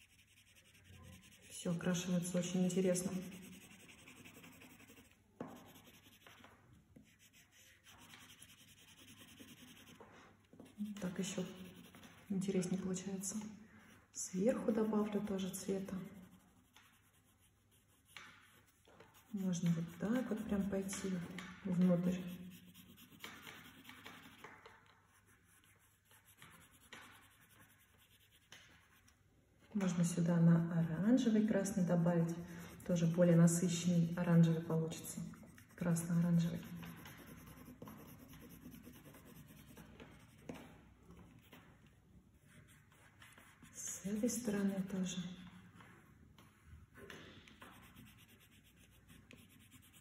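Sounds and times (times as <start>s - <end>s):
pencil scratching on paper: 0.0s - 13.2s, 13.8s - 29.1s, 32.3s - 40.7s, 42.4s - 50.0s.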